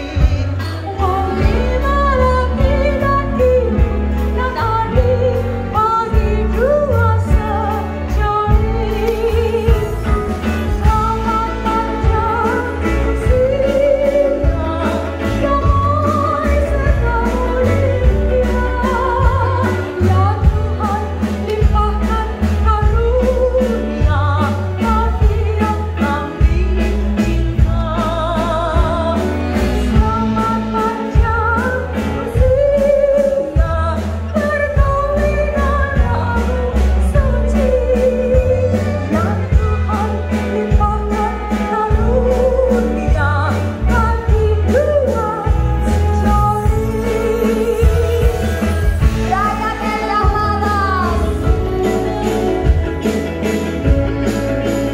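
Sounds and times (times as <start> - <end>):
band with heavy bass: 0.0 - 54.9
woman singing with vibrato: 0.0 - 54.9.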